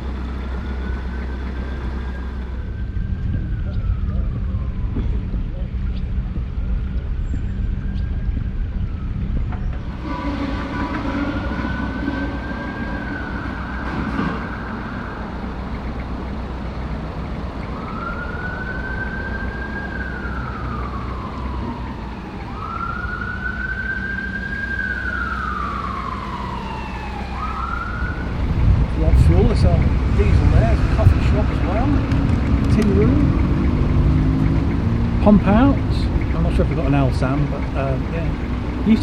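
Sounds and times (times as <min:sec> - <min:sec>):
boat diesel engine running: 0:00.0 - 0:39.0
emergency siren wailing: 0:00.0 - 0:39.0.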